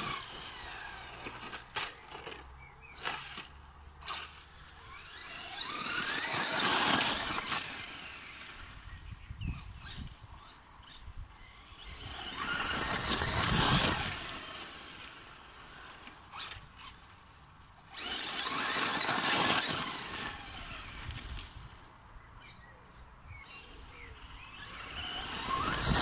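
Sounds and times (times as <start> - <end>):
tyres on gravel: 0.0 - 9.0, 11.4 - 26.0
rc truck motor whine: 0.0 - 22.6, 23.3 - 26.0.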